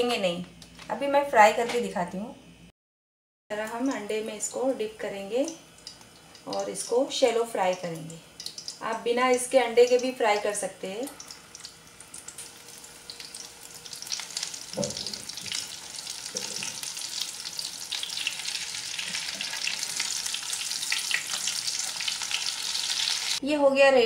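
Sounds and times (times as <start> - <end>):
patties sizzling in oil: 3.7 - 23.4.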